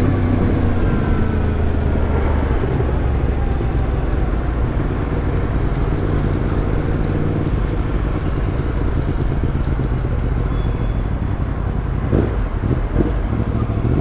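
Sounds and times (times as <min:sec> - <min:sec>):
road noise: 0:00.0 - 0:14.0
wind: 0:00.0 - 0:14.0
motorcycle engine running: 0:02.6 - 0:14.0.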